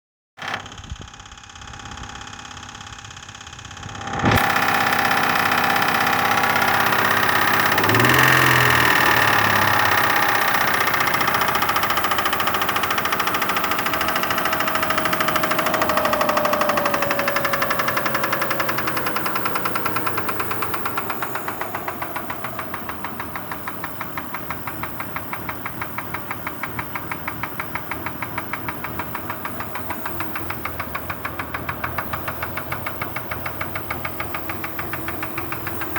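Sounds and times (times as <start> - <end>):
car engine starting: 3.8 - 35.9
engine idling with knock: 4.4 - 35.9.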